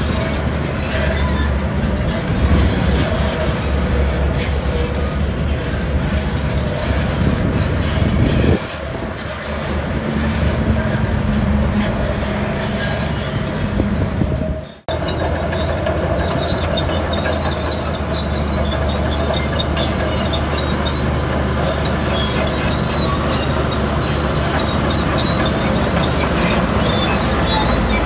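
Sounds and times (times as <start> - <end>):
bulldozer diesel engine running: 0.0 - 28.0
crawler tracks squeaking and clanking: 0.0 - 28.0.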